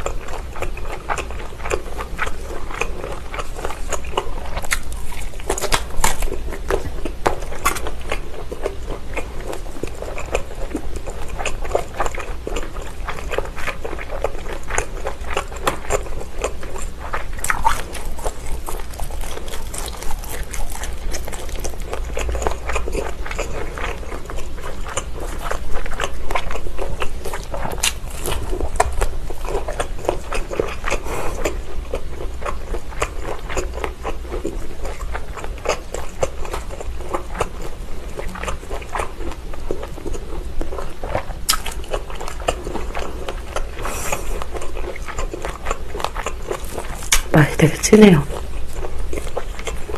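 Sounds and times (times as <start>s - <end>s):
biting and chewing sausages: 0.0s - 49.9s.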